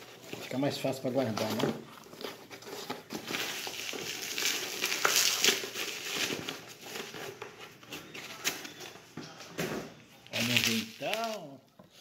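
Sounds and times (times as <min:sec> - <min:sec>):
bubble wrap crinkling: 0:00.0 - 0:09.1, 0:10.1 - 0:12.0.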